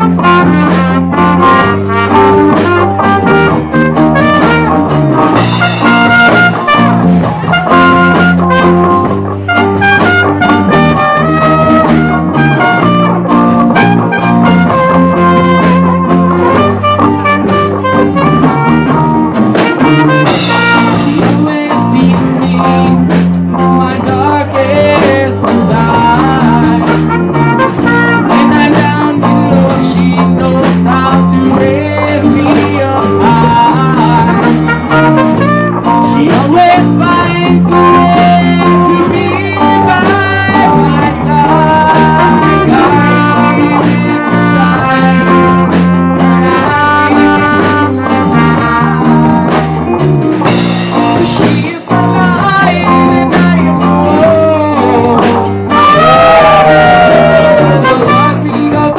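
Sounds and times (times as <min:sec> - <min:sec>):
drum kit: 0:00.0 - 0:58.9
electric guitar: 0:00.0 - 0:58.9
keyboard: 0:00.0 - 0:58.9
trumpet: 0:00.0 - 0:58.9.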